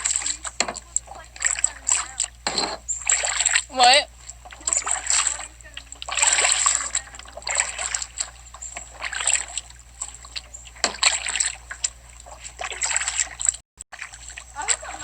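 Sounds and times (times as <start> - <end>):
kayak paddles splashing in water: 0.0 - 15.0.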